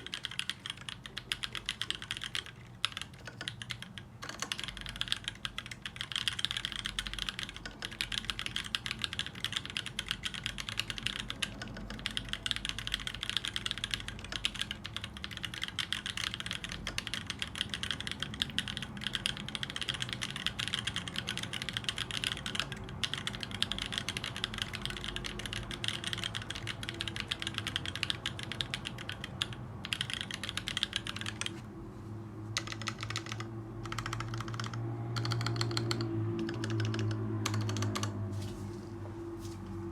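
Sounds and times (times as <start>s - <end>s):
fast typing on mechanical keyboard: 0.0s - 31.6s, 32.6s - 38.2s.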